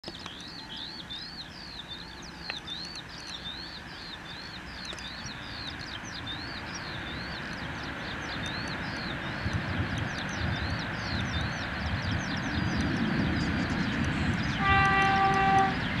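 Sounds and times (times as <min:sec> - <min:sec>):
songbird chirping: 0:00.0 - 0:16.0
distant train hiss: 0:00.1 - 0:16.0.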